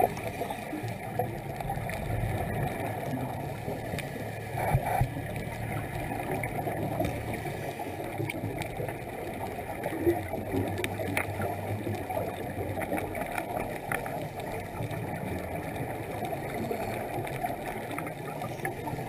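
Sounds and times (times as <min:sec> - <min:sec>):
faint clicks: 0:00.0 - 0:19.0
underwater exhaled bubbles gurgling: 0:00.0 - 0:19.0.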